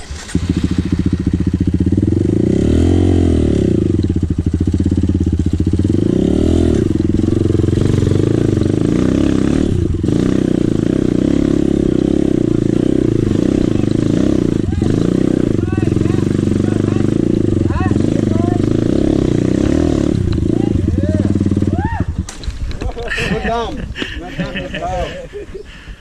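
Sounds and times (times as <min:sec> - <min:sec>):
dirt bike engine revving: 0:00.0 - 0:22.1.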